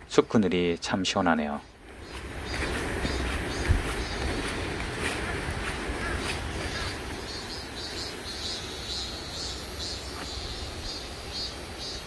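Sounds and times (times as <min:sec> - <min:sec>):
steady background hiss: 0:00.0 - 0:12.0
insects chirping: 0:00.9 - 0:12.0.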